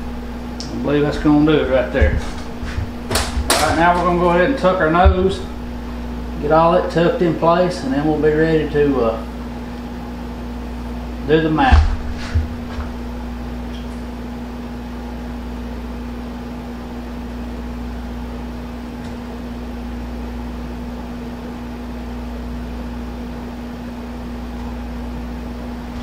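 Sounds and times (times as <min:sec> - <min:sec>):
steady motor hum: 0:00.0 - 0:26.0.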